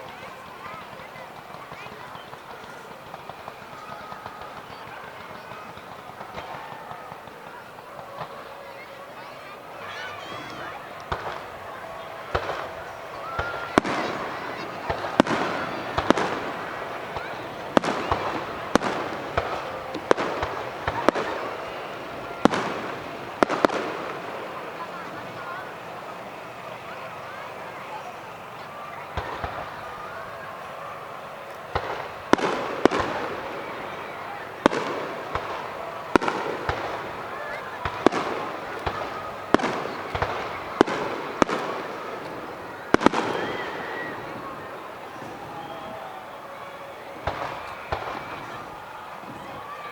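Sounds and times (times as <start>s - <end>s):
fireworks bursting with sharp bangs: 0.0s - 49.9s
background hiss: 9.3s - 49.8s.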